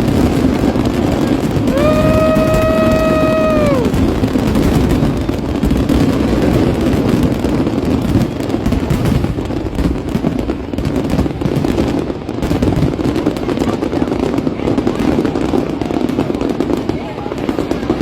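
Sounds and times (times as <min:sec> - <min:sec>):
fireworks crackling: 0:00.0 - 0:18.0
low rumble of firework bursts: 0:00.0 - 0:18.0.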